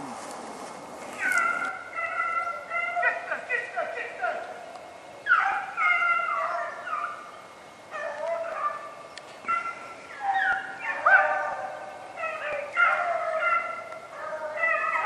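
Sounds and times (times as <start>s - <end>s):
hounds baying: 1.2s - 4.6s, 5.2s - 15.0s.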